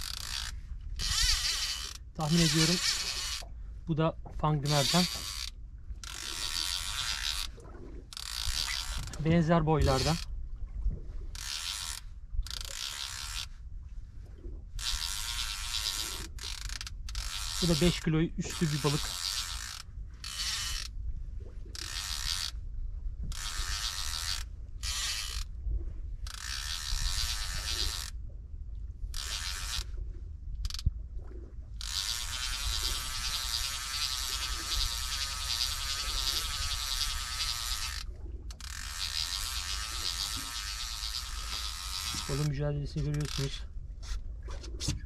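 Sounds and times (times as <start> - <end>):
fishing reel ratcheting: 0.0 - 3.6, 4.5 - 10.3, 11.3 - 13.6, 14.8 - 21.0, 21.7 - 22.6, 23.3 - 25.5, 26.2 - 28.2, 29.1 - 29.9, 30.6 - 30.9, 31.8 - 44.2.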